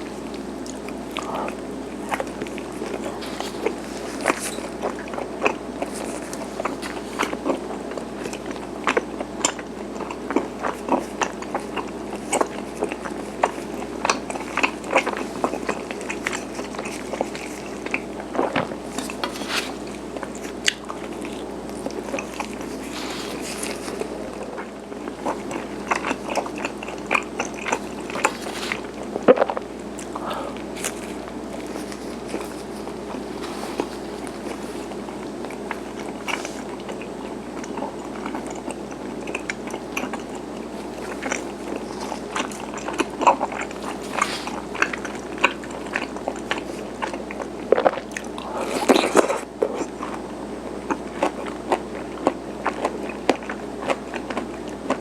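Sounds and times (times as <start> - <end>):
chewing with wet mouth clicks: 0.0 - 55.0.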